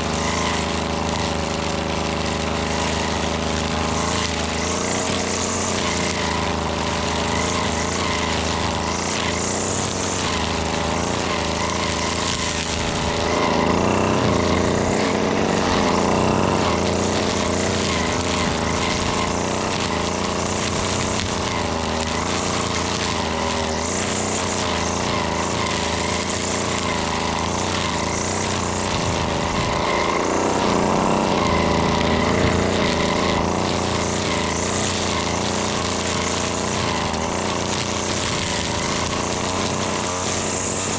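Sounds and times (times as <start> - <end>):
string trimmer cutting weeds: 0.0 - 40.9.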